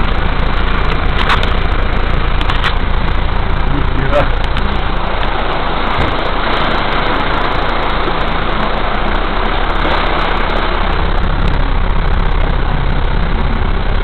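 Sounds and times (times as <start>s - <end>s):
car engine running low: 0.0s - 14.0s
heavy rain: 0.0s - 14.0s
rushing water: 0.0s - 14.0s.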